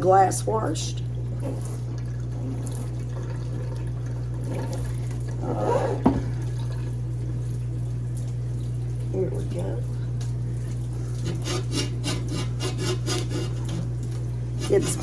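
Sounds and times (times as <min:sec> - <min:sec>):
steady low hum: 0:00.0 - 0:15.0
tap running water into sink: 0:01.1 - 0:15.0.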